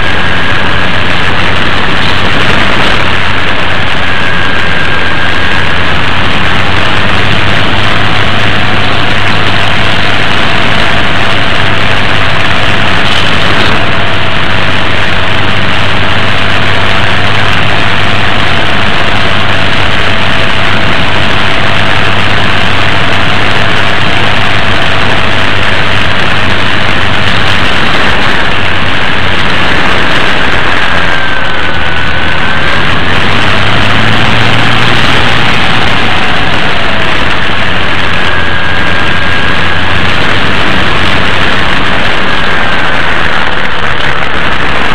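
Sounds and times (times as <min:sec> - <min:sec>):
model plane motor and propeller: 0:00.0 - 0:44.9
wind noise rushing: 0:00.0 - 0:44.9.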